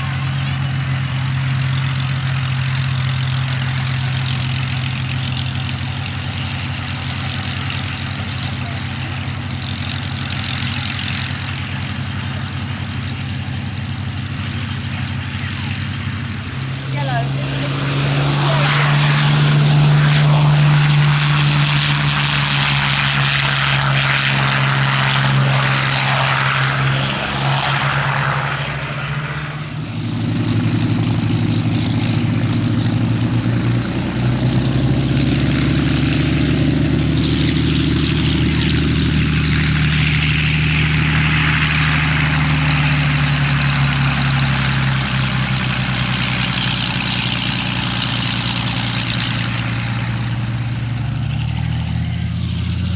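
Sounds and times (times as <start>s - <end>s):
propeller plane piston engine: 0.0s - 52.9s.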